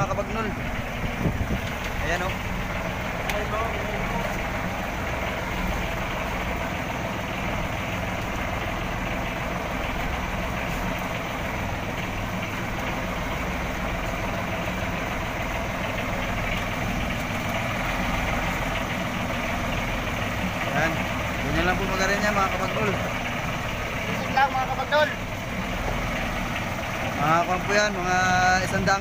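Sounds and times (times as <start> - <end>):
boat engine running at low speed: 0.0 - 29.0.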